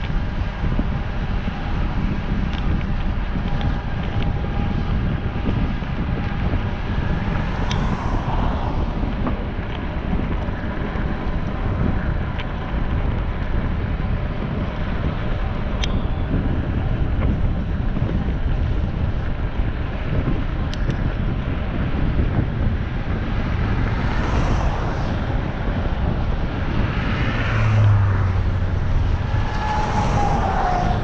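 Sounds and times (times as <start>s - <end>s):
low rumble: 0.0s - 31.0s
wind buffeting microphone: 0.0s - 31.0s.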